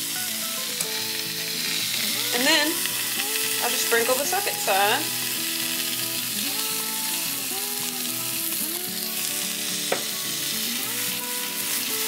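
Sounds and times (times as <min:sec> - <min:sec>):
background music of held notes: 0:00.0 - 0:12.0
meat sizzling on a griddle: 0:00.0 - 0:12.0.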